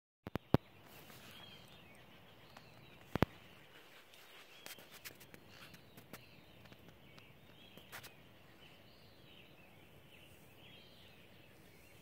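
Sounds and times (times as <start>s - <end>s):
songbirds chirping: 0.2s - 12.0s.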